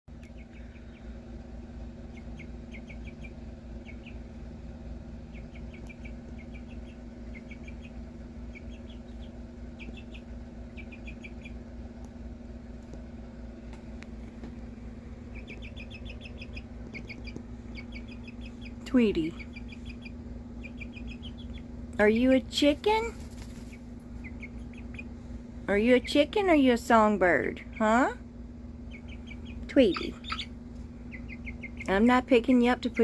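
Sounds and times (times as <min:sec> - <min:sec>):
steady low hum: 0:00.1 - 0:33.0
chicken chirping high peeps: 0:00.2 - 0:01.2, 0:02.0 - 0:04.4, 0:05.2 - 0:11.7, 0:15.2 - 0:28.2, 0:28.8 - 0:33.0.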